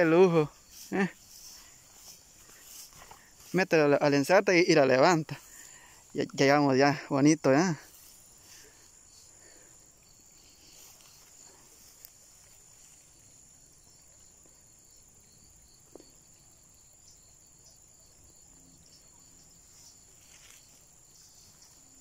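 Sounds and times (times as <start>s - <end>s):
insect chirring trill: 0.0s - 22.0s.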